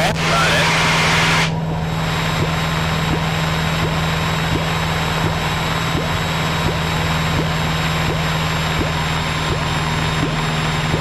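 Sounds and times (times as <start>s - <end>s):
airplane engine and propeller droning: 0.0s - 11.0s.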